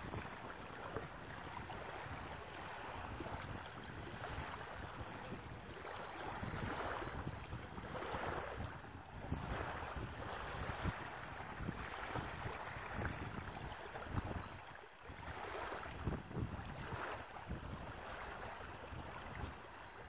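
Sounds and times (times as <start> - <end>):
small waves lapping on shore: 0.0 - 20.0
wind buffeting microphone: 0.0 - 20.0.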